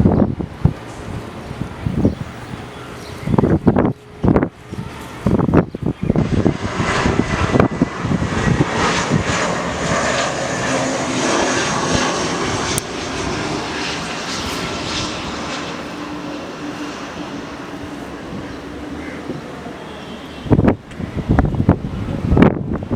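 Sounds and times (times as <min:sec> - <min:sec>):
wind buffeting microphone: 0:00.0 - 0:19.8, 0:20.4 - 0:22.9
jet engines rushing and whining: 0:00.0 - 0:22.9.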